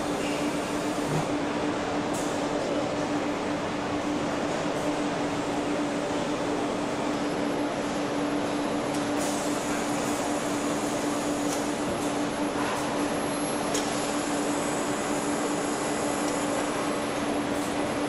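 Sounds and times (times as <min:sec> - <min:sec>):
constant machinery hum: 0:00.0 - 0:18.0.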